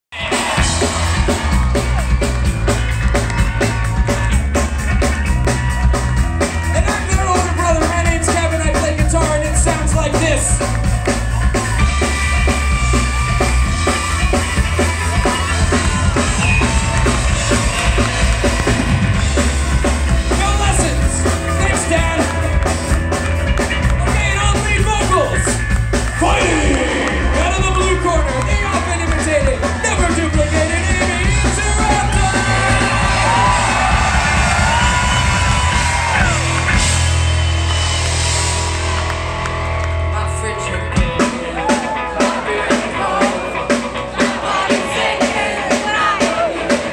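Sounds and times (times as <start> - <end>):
live ska-punk band playing: 0.1 - 46.9.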